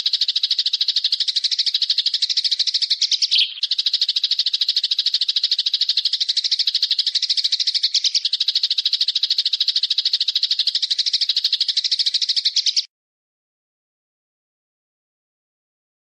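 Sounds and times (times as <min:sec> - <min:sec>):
bird rattling trill: 0:00.0 - 0:12.9.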